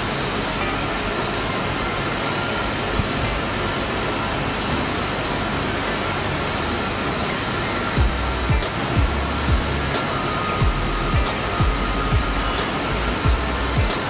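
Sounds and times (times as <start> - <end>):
toy quadcopter propellers whirring: 0.0 - 14.0.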